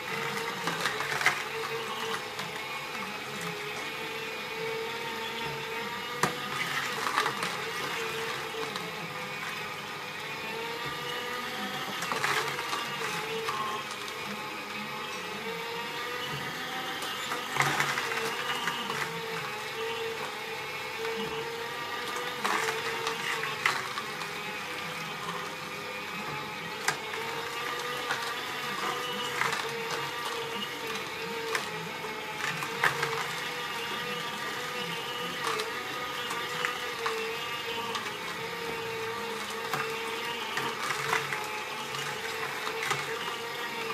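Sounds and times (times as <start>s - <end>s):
carrots crunching in juicer: 0.0s - 43.9s
juicer motor hum: 0.0s - 43.9s.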